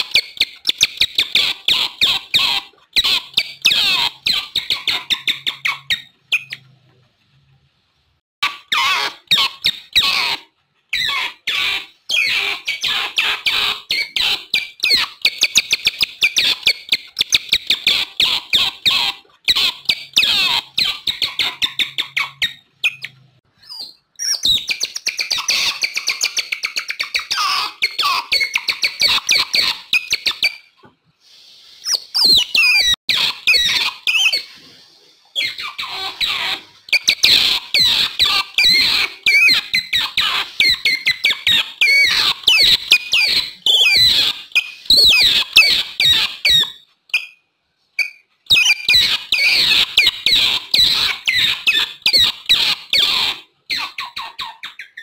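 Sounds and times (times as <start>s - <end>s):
otter chirping and squeaking: 0.0s - 6.9s, 8.4s - 30.9s, 31.8s - 47.4s, 48.0s - 55.0s.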